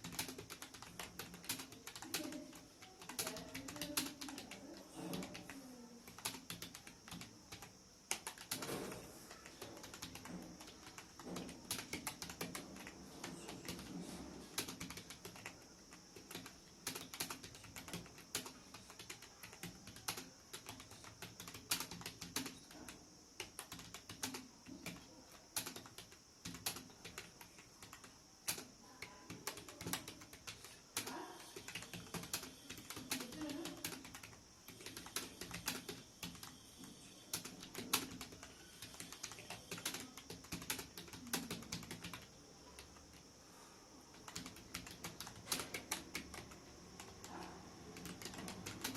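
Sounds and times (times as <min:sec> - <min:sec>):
fast keyboard typing: 0:00.0 - 0:43.3, 0:44.1 - 0:48.9.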